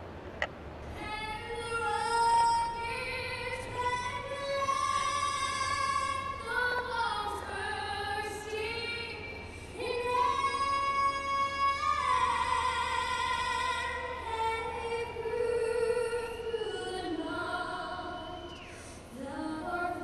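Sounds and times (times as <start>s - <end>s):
woman singing over loudspeakers: 1.0s - 20.0s.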